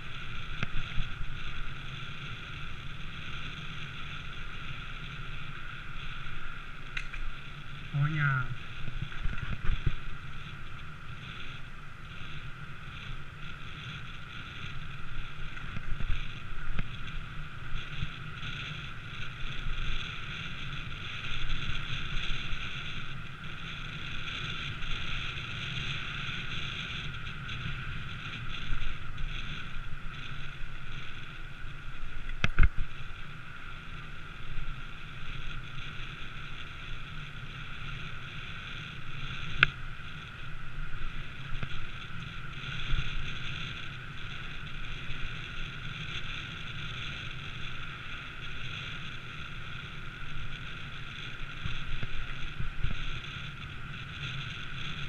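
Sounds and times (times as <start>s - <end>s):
wind and riding noise: 0.0s - 55.0s.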